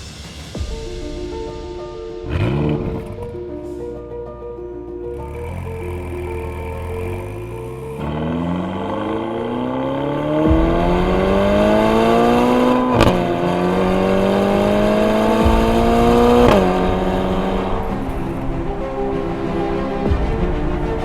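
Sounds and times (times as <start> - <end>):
car engine accelerating hard: 2.2 - 3.5, 5.0 - 21.0.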